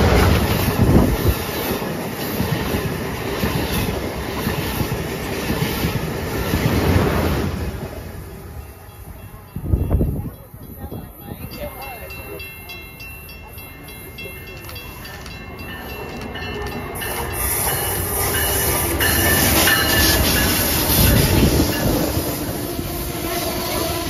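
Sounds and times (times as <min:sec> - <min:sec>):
train rumble and wheels on rails: 0:00.0 - 0:24.0.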